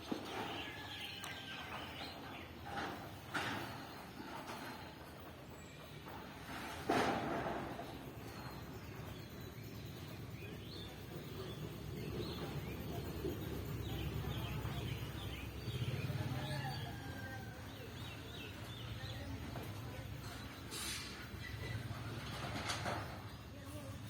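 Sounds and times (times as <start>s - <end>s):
birds chirping: 0.0s - 6.8s, 7.4s - 23.7s.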